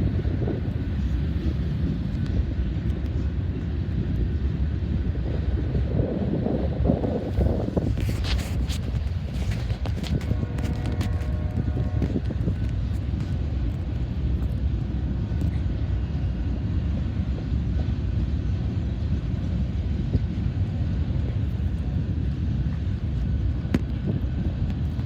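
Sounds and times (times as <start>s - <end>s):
freight train rumbling: 0.0s - 25.0s
wind on microphone: 0.0s - 25.0s.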